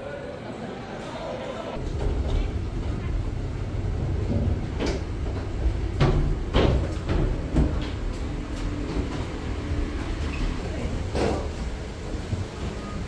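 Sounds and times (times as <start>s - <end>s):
rolling luggage rumble: 1.8s - 13.0s.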